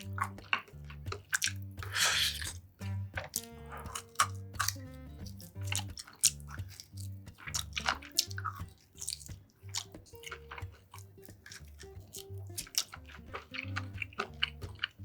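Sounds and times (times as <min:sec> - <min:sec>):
background music with low notes: 0:00.0 - 0:15.0
person chewing food: 0:00.0 - 0:15.0
wet mouth noises: 0:00.0 - 0:15.0.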